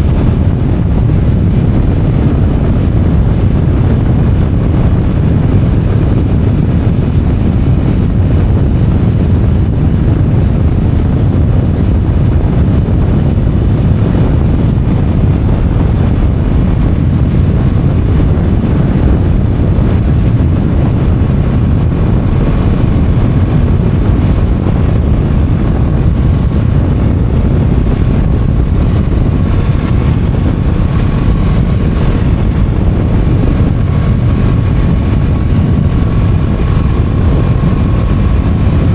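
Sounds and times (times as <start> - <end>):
motorcycle engine rumbling: 0.0 - 38.9
wind buffeting microphone: 0.0 - 38.9.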